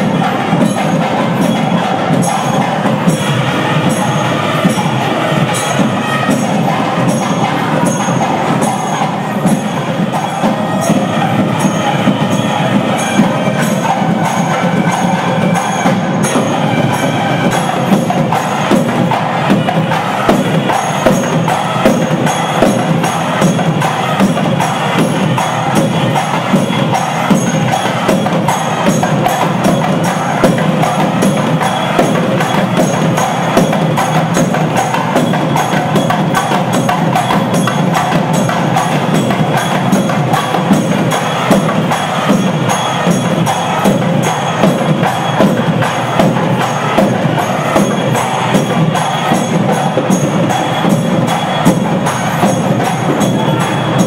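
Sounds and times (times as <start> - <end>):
fast drum and wood-block music: 0.0 - 54.0.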